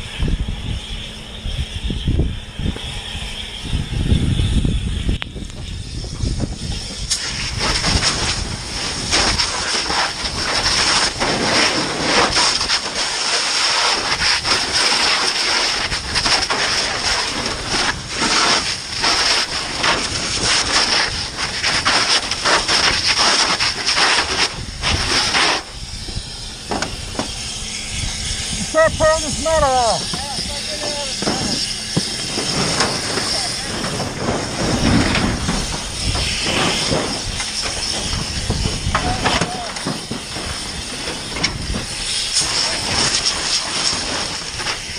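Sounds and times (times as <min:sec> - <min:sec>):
fire hose spraying water: 0:00.0 - 0:44.9.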